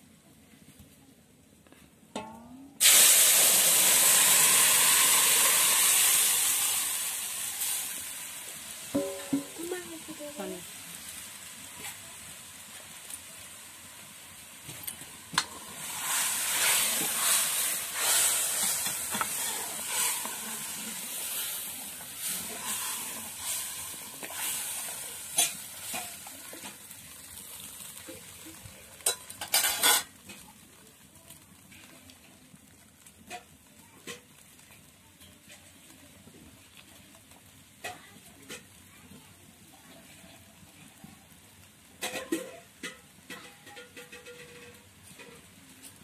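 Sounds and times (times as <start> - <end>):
oil and spices sizzling: 0.0 - 46.0.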